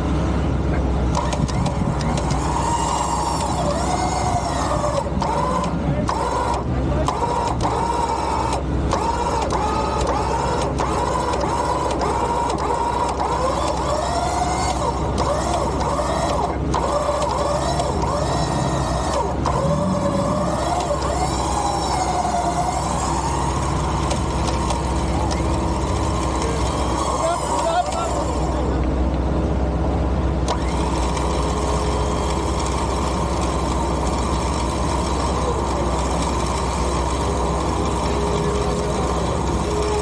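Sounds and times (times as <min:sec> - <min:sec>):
low engine hum: 0:00.0 - 0:40.0
electric winch whining: 0:00.9 - 0:40.0.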